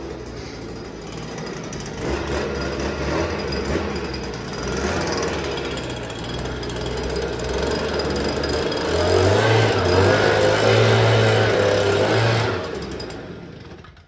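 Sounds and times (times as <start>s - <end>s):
leaf blower running: 0.0s - 14.0s.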